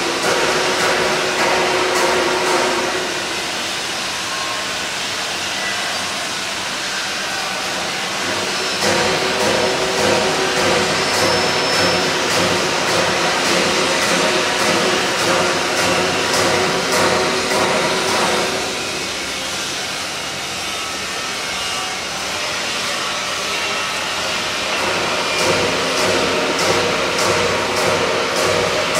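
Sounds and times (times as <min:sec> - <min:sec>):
hydraulic motor and pump hum: 0:00.0 - 0:28.9.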